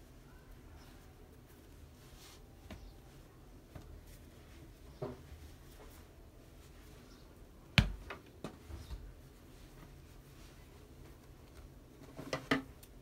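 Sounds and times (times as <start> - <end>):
fabric rustling: 0.0 - 7.6, 8.6 - 12.8.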